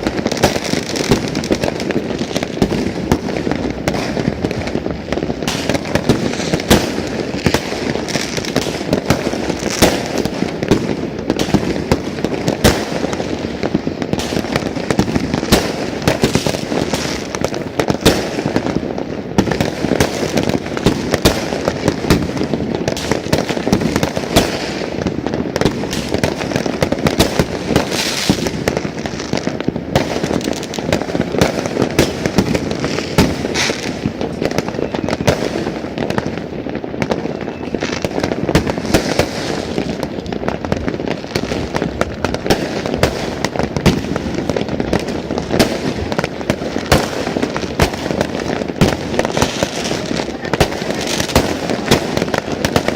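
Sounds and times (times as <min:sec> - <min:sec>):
distant fireworks rumble: 0:00.0 - 0:52.9
firework cracks and pops: 0:00.0 - 0:52.9.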